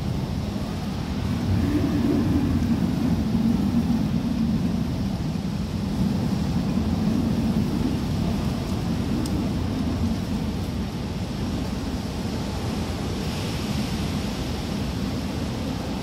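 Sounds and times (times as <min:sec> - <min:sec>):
strong wind rushing: 0:00.0 - 0:16.0.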